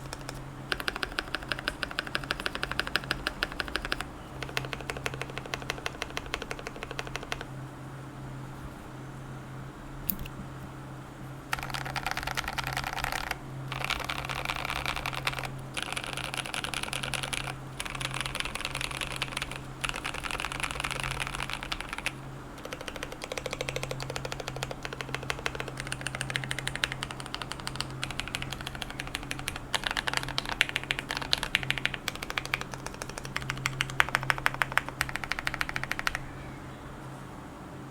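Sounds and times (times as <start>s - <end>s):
mechanical keyboard typing: 0.0s - 7.5s, 11.5s - 36.3s.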